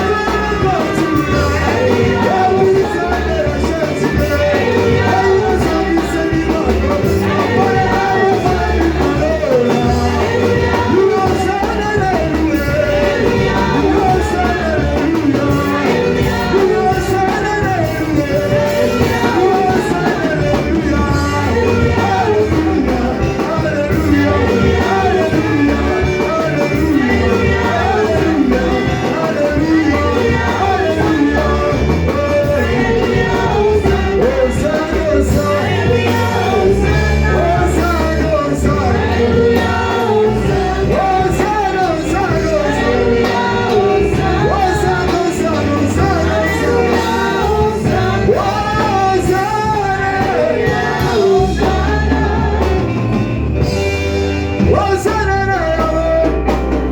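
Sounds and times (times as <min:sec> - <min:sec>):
instrumental accompaniment: 0:00.0 - 0:56.9
voices singing worship music: 0:00.0 - 0:56.9.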